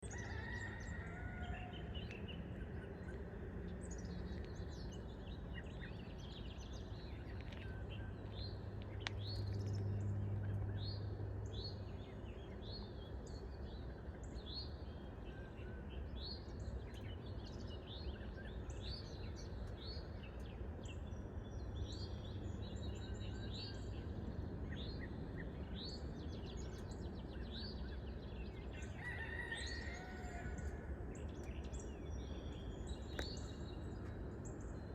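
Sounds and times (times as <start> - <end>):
low background rumble: 0.0 - 34.9
small songbirds chirping: 0.0 - 34.9.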